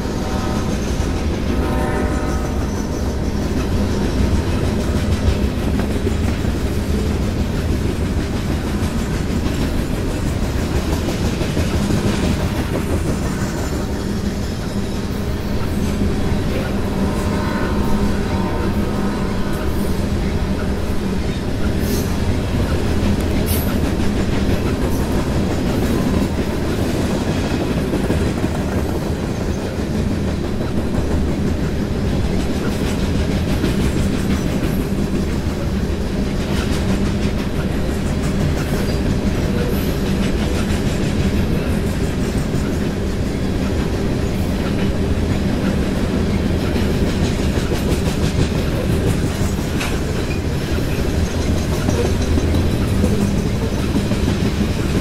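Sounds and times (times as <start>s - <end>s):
train wheels rumbling on rails: 0.0s - 55.0s
wheels clickety-clack over track: 0.0s - 55.0s.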